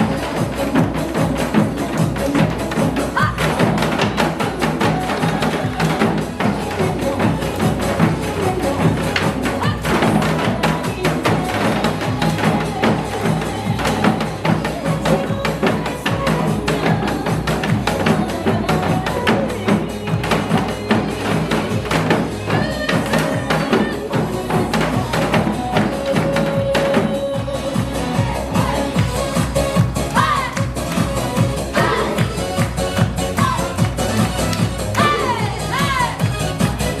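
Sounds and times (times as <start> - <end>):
backing track with beat and melody: 0.0 - 37.0
drums played in a group: 0.0 - 37.0.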